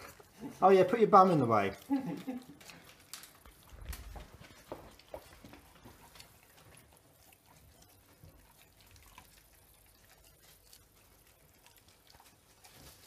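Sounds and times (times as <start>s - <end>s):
dog licking and chewing: 0.0s - 13.0s.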